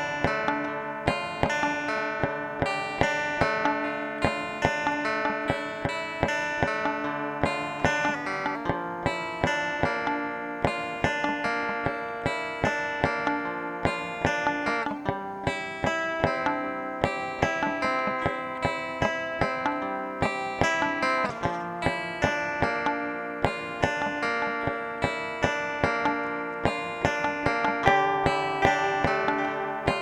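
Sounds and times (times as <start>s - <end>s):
guitar picking notes: 0.0s - 30.0s.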